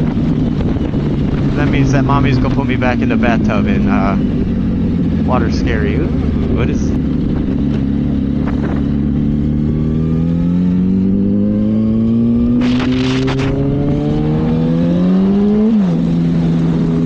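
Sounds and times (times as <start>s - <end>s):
motorcycle engine accelerating: 0.0s - 17.0s
wind and road rumble: 0.0s - 17.0s.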